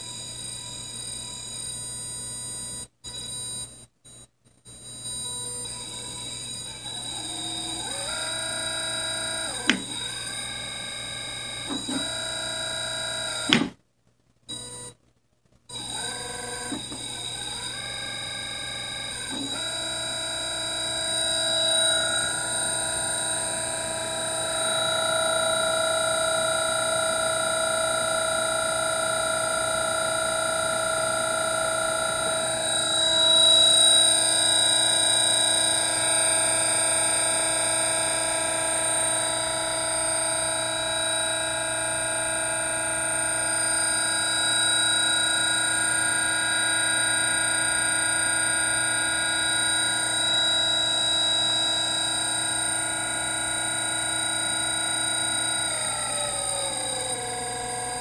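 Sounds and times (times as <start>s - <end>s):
electric motor whining: 4.9s - 13.8s, 14.5s - 15.0s, 15.7s - 58.0s.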